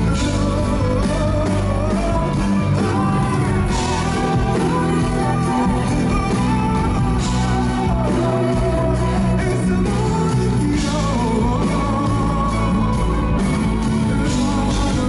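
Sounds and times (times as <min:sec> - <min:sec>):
drums: 0:00.0 - 0:15.0
electric guitar: 0:00.0 - 0:15.0
man singing into a microphone: 0:00.0 - 0:15.0.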